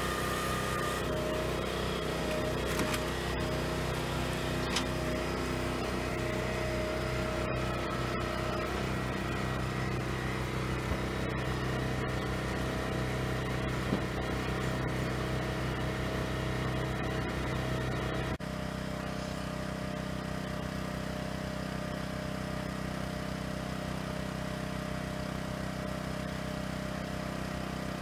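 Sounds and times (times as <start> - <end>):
firewood processor engine running: 0.0 - 28.0.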